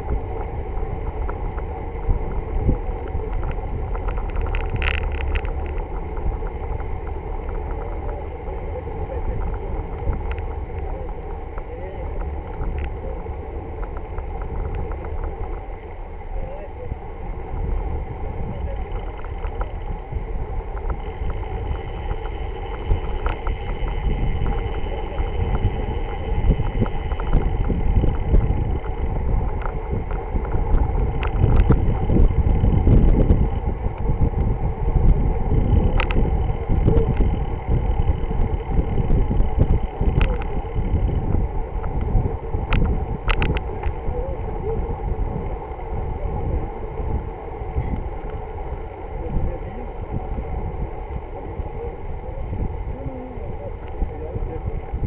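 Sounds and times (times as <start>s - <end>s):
tyres rumbling on road: 0.0s - 55.0s
wind over microphone: 0.0s - 55.0s.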